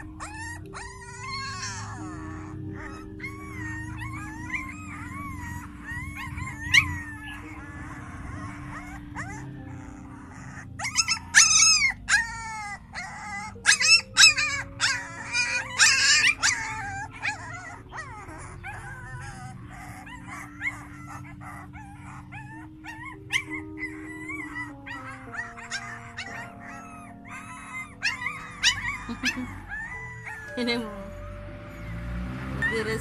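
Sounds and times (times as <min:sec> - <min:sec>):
puppies yelping and squealing: 0:00.0 - 0:33.0.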